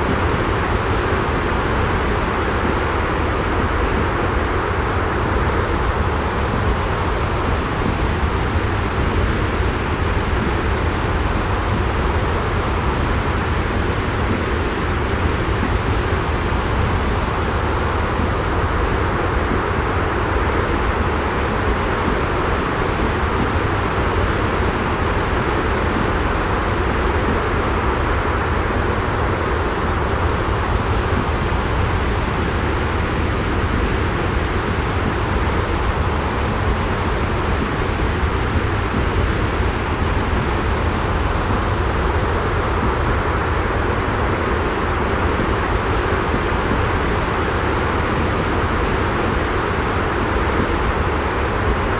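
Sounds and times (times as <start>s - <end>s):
rushing white noise with low rumble: 0.0s - 51.9s.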